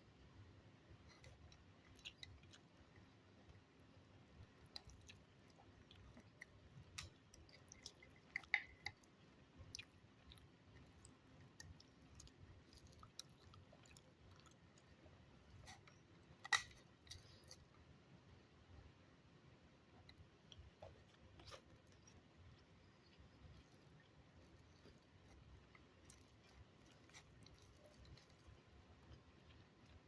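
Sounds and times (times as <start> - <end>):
chewing: 1.0 - 3.6, 4.3 - 17.7, 20.0 - 30.0.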